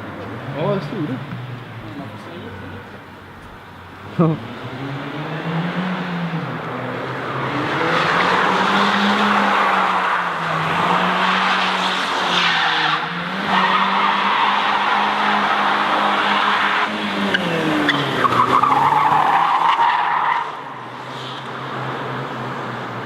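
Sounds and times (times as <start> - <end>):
car engine at high revs: 2.6 - 23.0.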